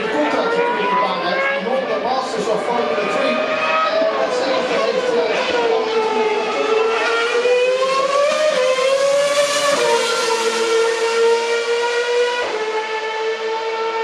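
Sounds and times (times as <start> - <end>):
racing car engine at high revs: 0.0 - 14.0.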